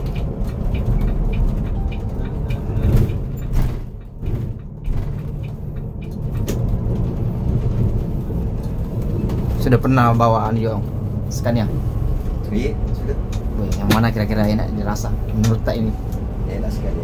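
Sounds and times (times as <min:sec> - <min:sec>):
diesel engine rumble: 0:00.0 - 0:17.0
road noise: 0:00.0 - 0:17.0.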